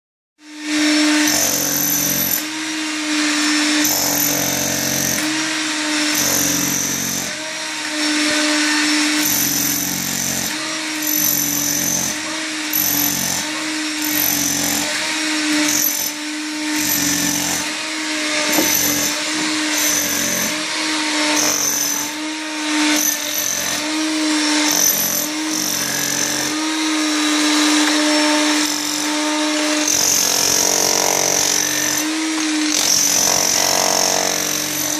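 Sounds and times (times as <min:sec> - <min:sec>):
demolition hammer chiselling tiles: 0:00.4 - 0:34.9.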